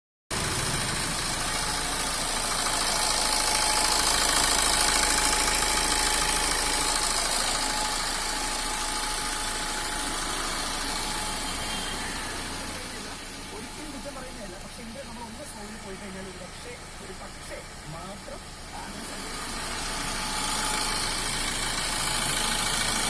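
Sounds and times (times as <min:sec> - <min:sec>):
diesel engine idling: 0:00.3 - 0:23.0.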